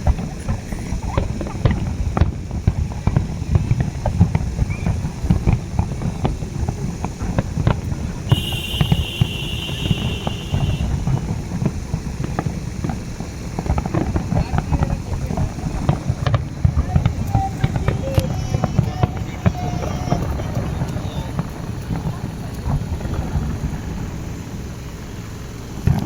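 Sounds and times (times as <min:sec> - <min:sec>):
fireworks bangs and crackles: 0:00.0 - 0:26.0
low rumble: 0:00.0 - 0:26.0.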